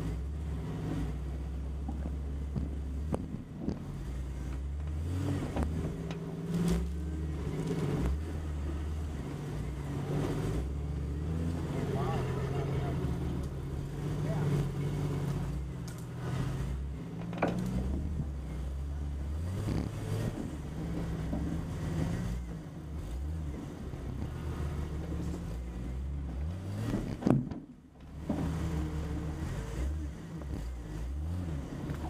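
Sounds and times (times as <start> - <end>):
engine running at low revs: 0.0 - 32.0.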